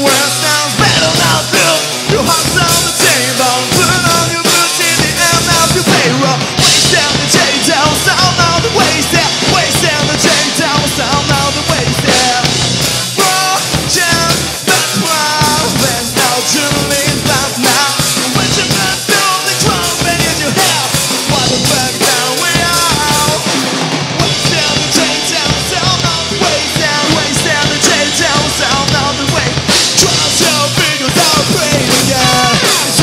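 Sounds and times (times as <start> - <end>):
man singing into microphone: 0.0 - 23.5, 24.2 - 33.0
bass guitar: 0.0 - 33.0
drum kit: 0.0 - 33.0
electric guitars: 0.0 - 33.0.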